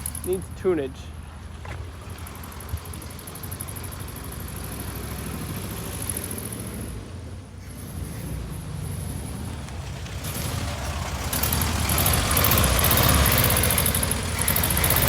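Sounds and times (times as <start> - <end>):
car engine running rough: 0.0 - 15.0.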